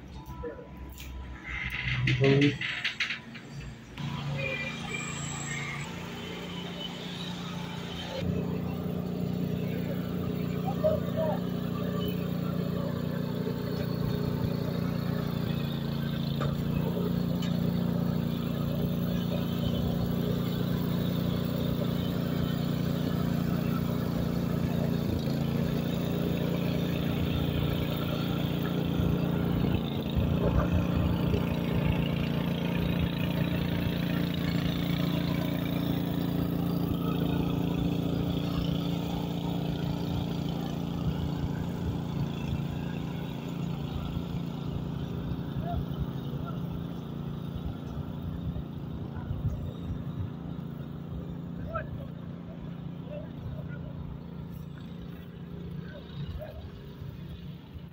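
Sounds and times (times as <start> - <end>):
turboprop engine drone: 0.0 - 57.9.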